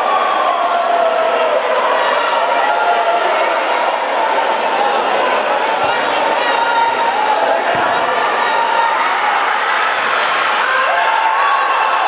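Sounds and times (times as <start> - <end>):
crowd voices calling out: 0.0 - 12.0.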